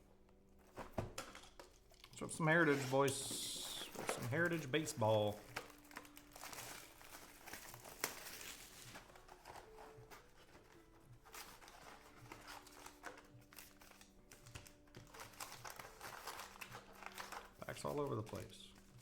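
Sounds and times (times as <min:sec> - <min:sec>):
card pack wrappers tearing: 0:00.8 - 0:19.0.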